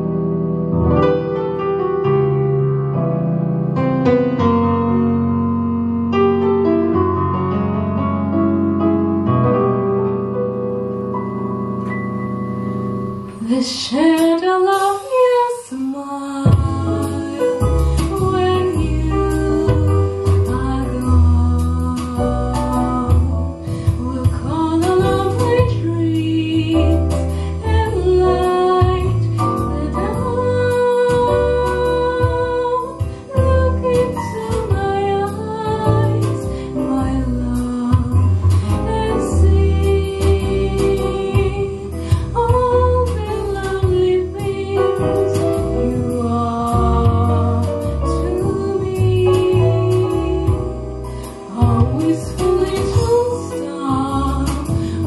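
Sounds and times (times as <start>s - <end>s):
recorded accompaniment with bass: 0.0s - 55.0s.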